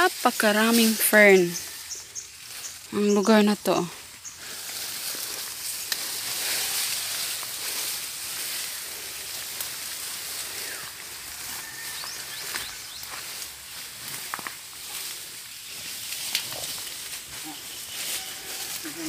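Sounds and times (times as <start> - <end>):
leaves rustling underfoot: 0.0 - 19.0.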